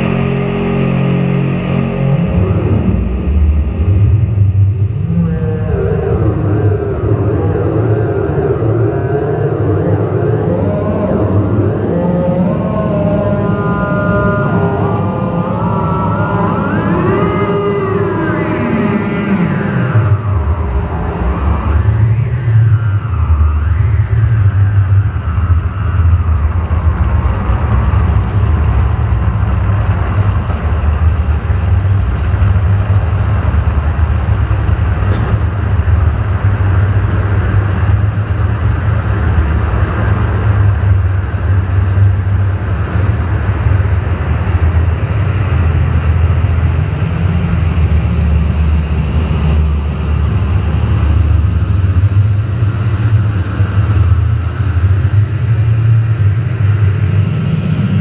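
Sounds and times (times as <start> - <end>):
ambient synthesizer drone music: 0.0 - 58.0.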